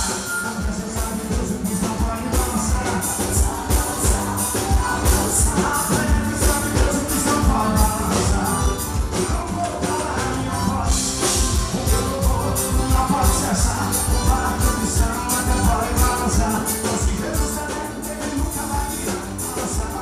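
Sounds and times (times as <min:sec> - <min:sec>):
upbeat band music: 0:00.0 - 0:20.0.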